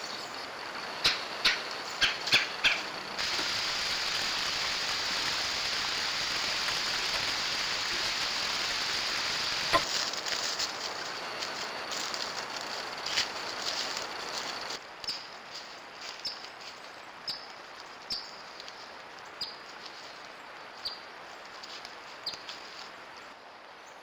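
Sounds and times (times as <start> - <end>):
rain falling in woods: 0.0 - 24.0
rustles in dry leaves: 1.6 - 24.0.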